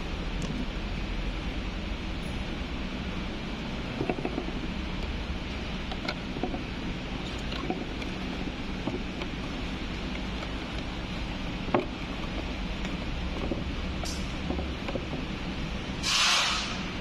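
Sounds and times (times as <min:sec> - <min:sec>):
workshop hiss and hum: 0:00.0 - 0:17.0.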